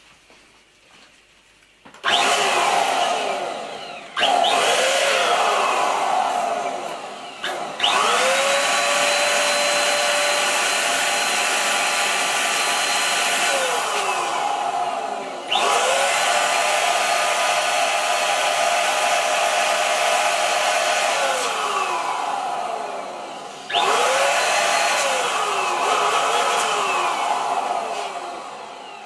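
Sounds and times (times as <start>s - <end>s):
electric balloon pump whirring: 1.9s - 29.0s.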